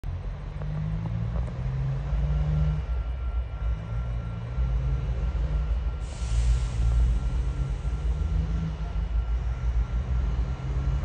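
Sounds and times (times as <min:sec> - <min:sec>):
diesel locomotive engine rumble: 0:00.0 - 0:11.0
faint steady high tone: 0:01.9 - 0:11.0.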